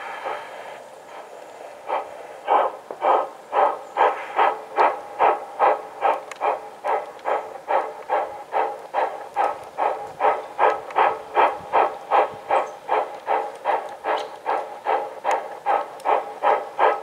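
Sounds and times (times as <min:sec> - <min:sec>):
model steam locomotive chuffing: 0:00.0 - 0:17.0.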